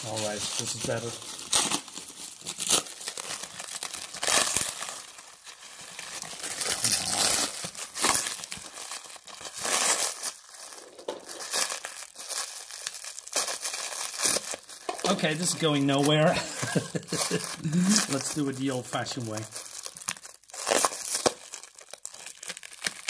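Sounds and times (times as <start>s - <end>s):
hands crinkling plastic wrapping: 0.0s - 23.0s.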